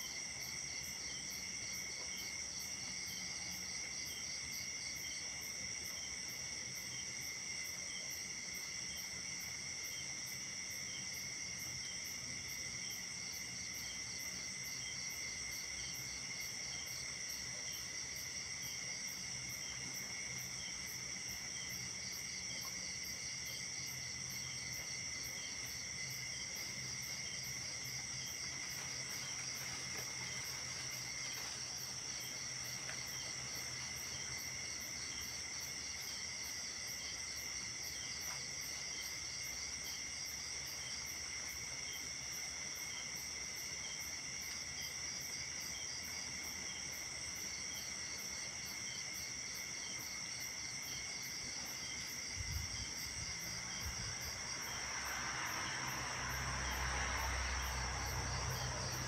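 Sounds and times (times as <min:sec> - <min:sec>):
high pulsing insect call: 0:00.0 - 0:59.0.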